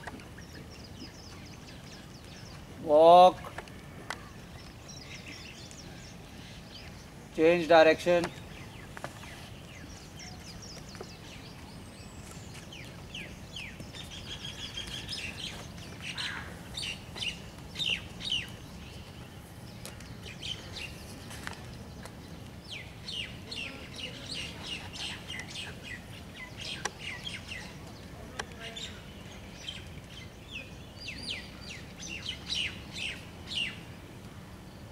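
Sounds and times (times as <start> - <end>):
low background noise: 0.0 - 34.9
small birds chirping: 0.0 - 34.9.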